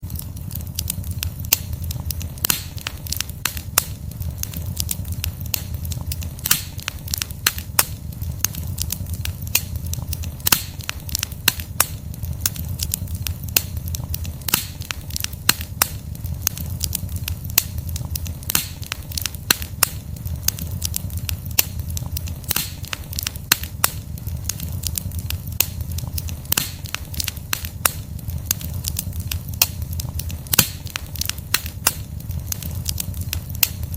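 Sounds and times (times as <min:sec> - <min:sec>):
fire crackling and popping: 0:00.0 - 0:33.9
low rumble of flames: 0:00.0 - 0:33.9.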